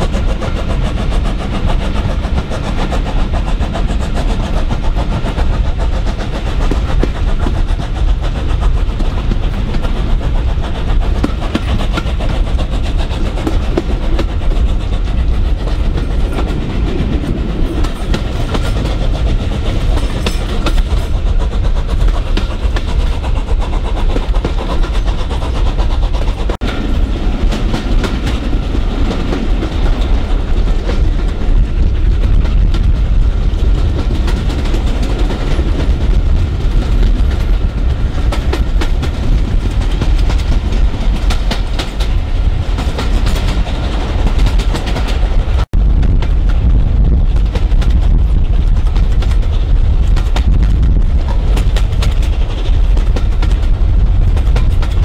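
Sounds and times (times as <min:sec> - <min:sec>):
train wheels clicking over joints: 0:00.0 - 0:55.0.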